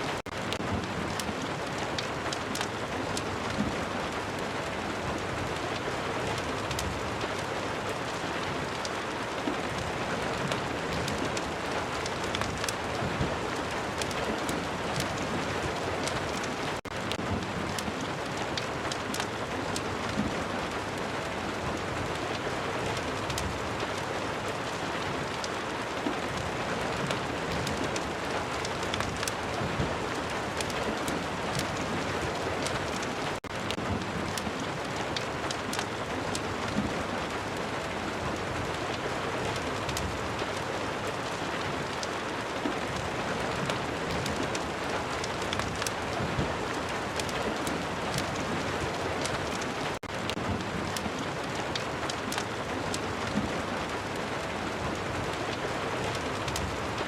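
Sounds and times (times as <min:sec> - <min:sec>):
fireplace crackling: 0:00.0 - 0:57.0
steady rain: 0:00.0 - 0:57.0.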